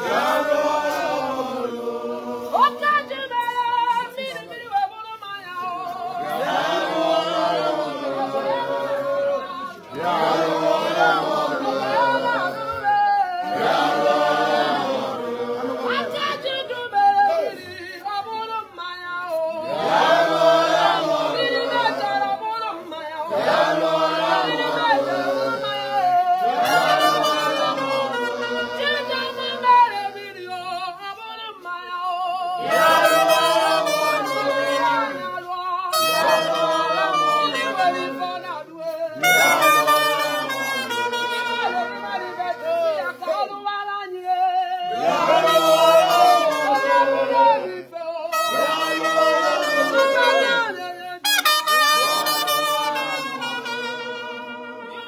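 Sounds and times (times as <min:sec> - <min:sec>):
group of people singing: 0:00.0 - 0:55.0.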